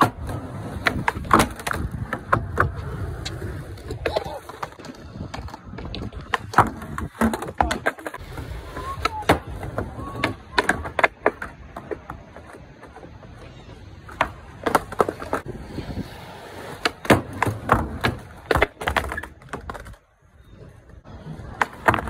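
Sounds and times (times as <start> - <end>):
skateboard wooden clacks: 0.0 - 15.6, 16.6 - 22.0
skateboard rolling: 0.0 - 22.0.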